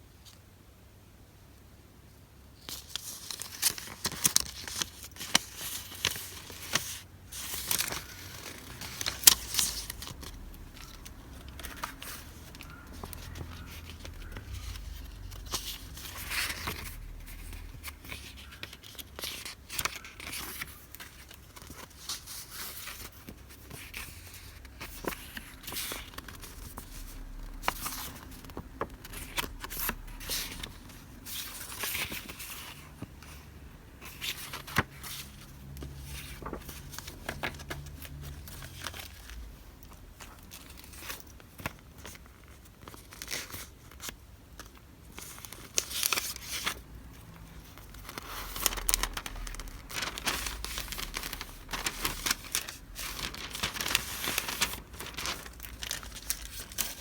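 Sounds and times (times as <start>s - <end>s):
paper packaging rustling and crinkling: 2.6s - 57.0s.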